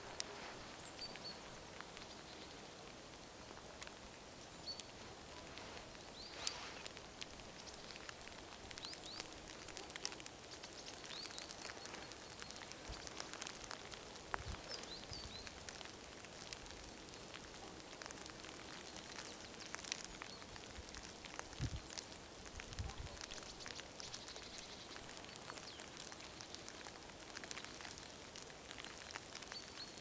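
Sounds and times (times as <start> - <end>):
light ticks: 3.1 - 30.0.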